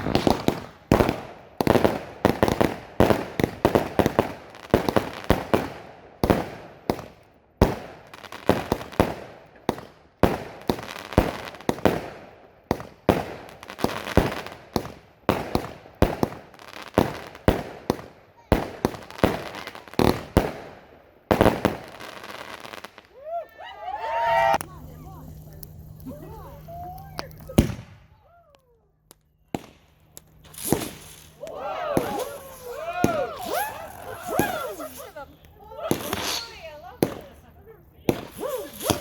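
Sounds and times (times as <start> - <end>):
fireworks bangs: 0.0 - 28.4, 29.4 - 39.0.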